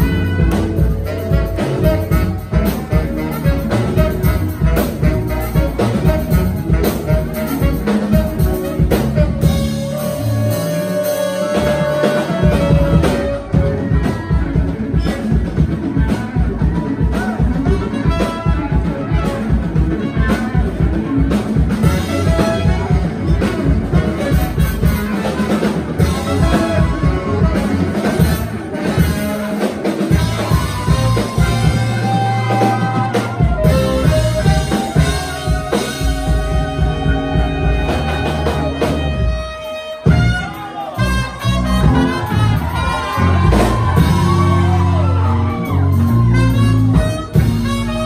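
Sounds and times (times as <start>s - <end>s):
drum beat: 0.0s - 48.0s
live band playing: 0.0s - 48.0s.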